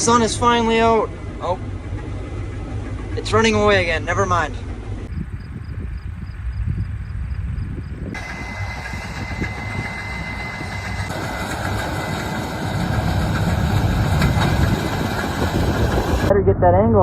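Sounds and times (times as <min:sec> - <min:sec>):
mechanical whine: 0:00.0 - 0:16.6
combine harvester engine rumble: 0:00.0 - 0:17.0.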